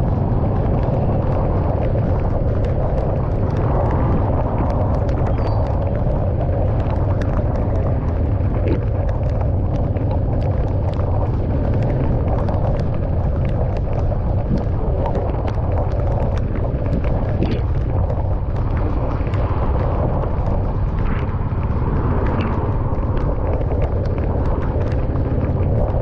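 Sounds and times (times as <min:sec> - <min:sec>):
light ticks: 0:00.0 - 0:26.0
road rumble: 0:00.0 - 0:26.0.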